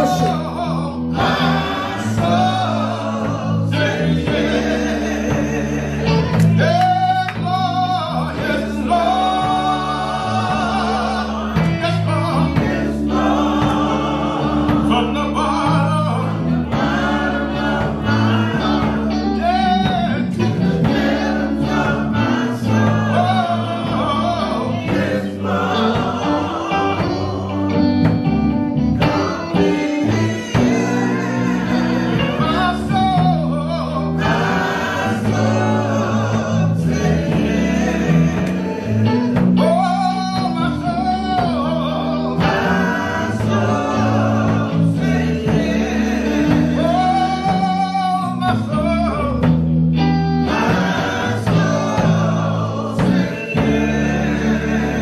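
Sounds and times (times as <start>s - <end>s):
bass line: 0.0s - 55.0s
gospel voices singing: 0.0s - 55.0s.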